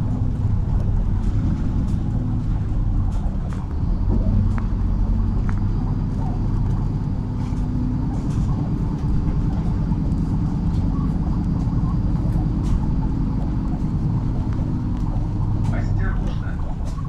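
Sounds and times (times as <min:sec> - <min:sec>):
bus engine droning: 0:00.0 - 0:17.0
faint clicks and rattles: 0:00.0 - 0:17.0.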